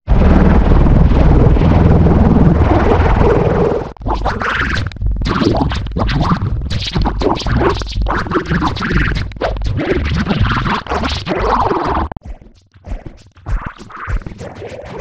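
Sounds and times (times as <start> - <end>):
harsh distorted noise wash: 0.1 - 15.0
stuttering scratch-like fragments: 0.1 - 15.0.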